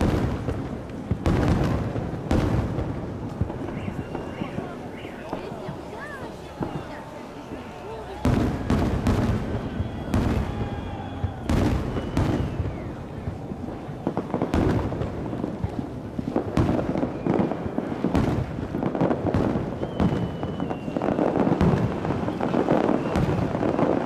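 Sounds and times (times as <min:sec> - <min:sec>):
fireworks crackling: 0:00.0 - 0:24.0
firework whistles: 0:03.4 - 0:15.1, 0:16.3 - 0:24.0.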